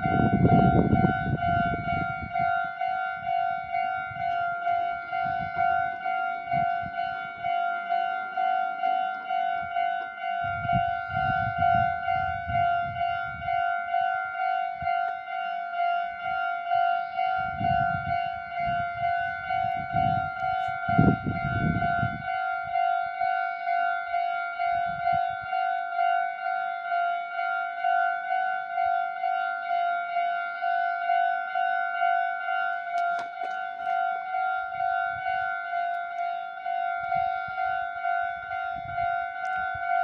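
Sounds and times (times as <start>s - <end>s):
level-crossing bell ringing: 0.0s - 40.0s.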